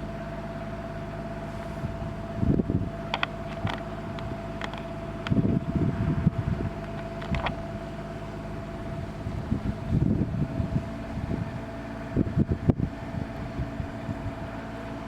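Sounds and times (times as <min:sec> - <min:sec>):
low rumble: 0:01.5 - 0:15.0
wind buffeting microphone: 0:01.6 - 0:14.8.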